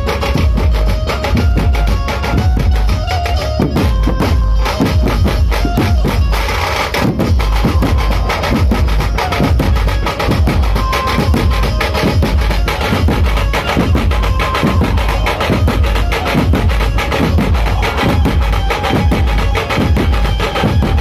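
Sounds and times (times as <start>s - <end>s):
large drums beaten with sticks: 0.0s - 21.0s.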